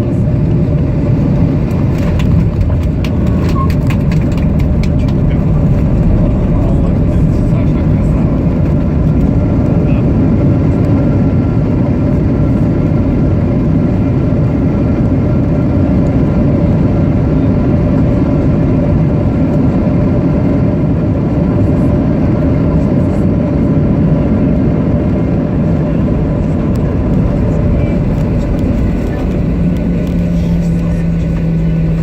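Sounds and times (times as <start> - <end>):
heavy low rumble: 0.0 - 32.0
jet engines droning: 0.0 - 32.0.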